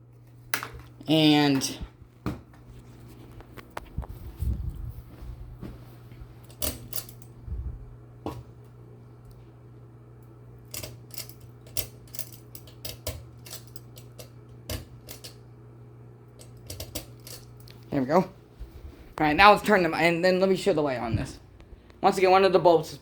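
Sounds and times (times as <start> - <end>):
ceiling fan motor humming: 0.0 - 23.0.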